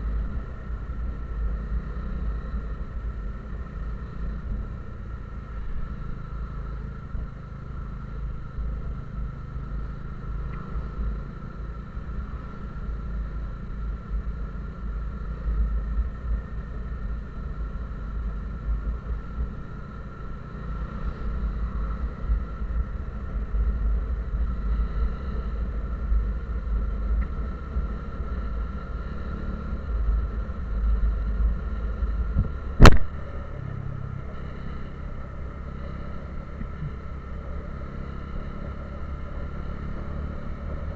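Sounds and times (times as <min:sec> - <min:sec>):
vehicle engine and road rumble: 0:00.0 - 0:40.9.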